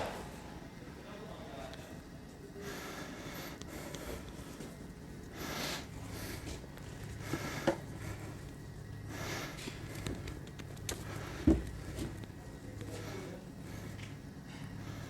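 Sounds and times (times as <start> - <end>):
faint steady hum: 0.0 - 15.0
person breathing close to microphone: 2.6 - 15.0.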